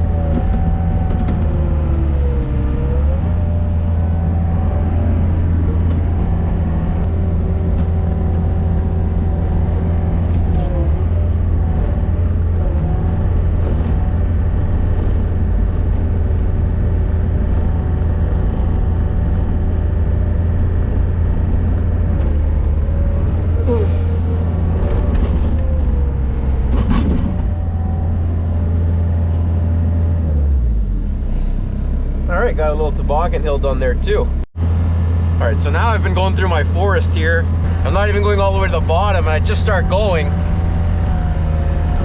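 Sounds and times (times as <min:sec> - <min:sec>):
diesel engine running under load: 0:00.0 - 0:42.0
high engine whine: 0:00.0 - 0:42.0.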